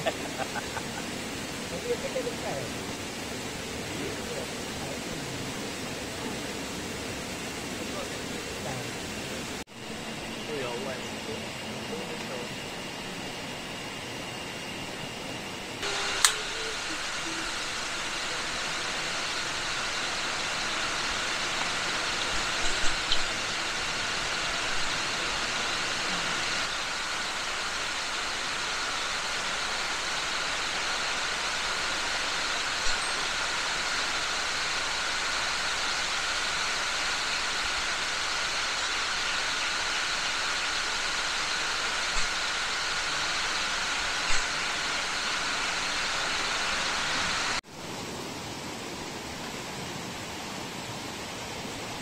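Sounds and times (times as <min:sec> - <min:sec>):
insects droning at night: 0:00.0 - 0:52.0.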